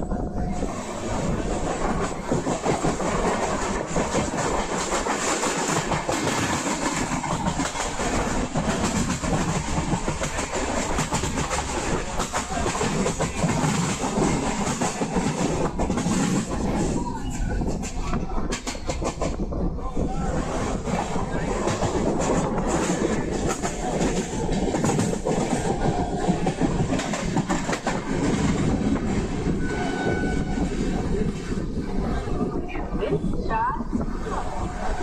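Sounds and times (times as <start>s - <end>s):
train rumbling: 0.0s - 35.0s
wheels clicking over rails: 0.7s - 32.6s.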